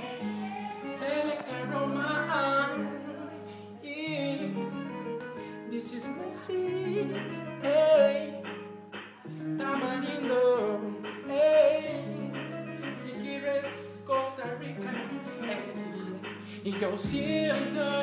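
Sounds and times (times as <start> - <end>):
backing track of held chords: 0.0 - 18.0
person singing wordless melody: 0.0 - 18.0.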